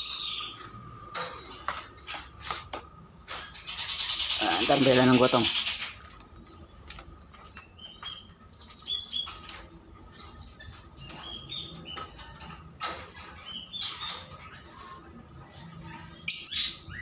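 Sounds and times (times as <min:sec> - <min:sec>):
small birds chirping: 0:00.0 - 0:01.7, 0:03.3 - 0:17.0
wire cages clicking and knocking: 0:00.0 - 0:17.0.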